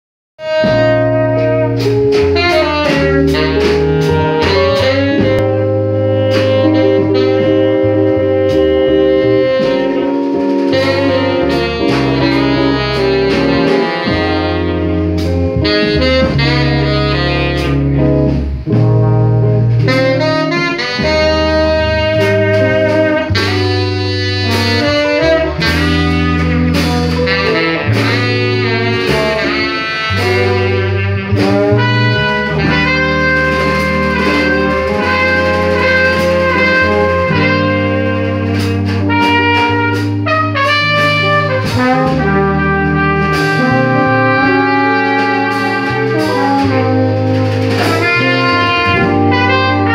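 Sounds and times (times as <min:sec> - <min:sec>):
bass line: 0:00.4 - 0:49.9
drum kit: 0:00.4 - 0:49.9
horn lines: 0:00.4 - 0:49.9
trombone: 0:00.4 - 0:49.9.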